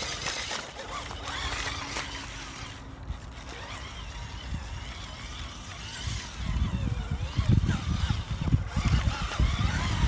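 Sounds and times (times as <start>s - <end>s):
rc car motor whine: 0.0s - 10.0s
tyres rumbling on rough ground: 0.0s - 10.0s.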